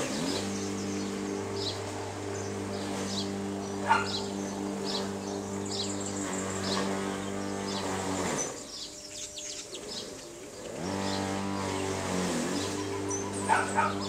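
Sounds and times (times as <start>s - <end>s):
birds chirping: 0.0s - 14.0s
low motor hum: 0.0s - 14.0s.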